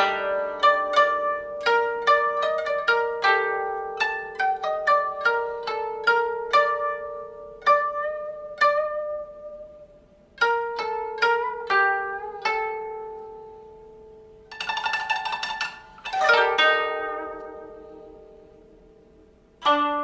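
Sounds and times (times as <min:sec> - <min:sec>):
plucked string instrument music: 0:00.0 - 0:20.0.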